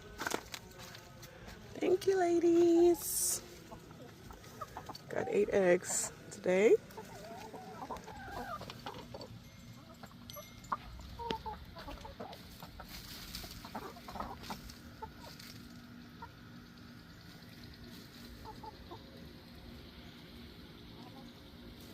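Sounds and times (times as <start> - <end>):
hens clucking: 0.0 - 21.9.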